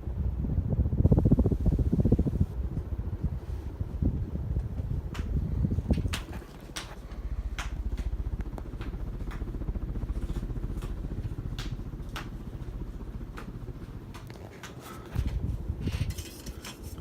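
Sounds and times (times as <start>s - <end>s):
ceiling fan rumbling: 0.0s - 17.0s.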